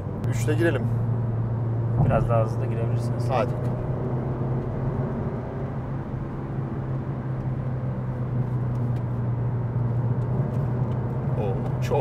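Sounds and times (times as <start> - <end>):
car engine humming: 0.0 - 12.0
road noise: 0.0 - 12.0.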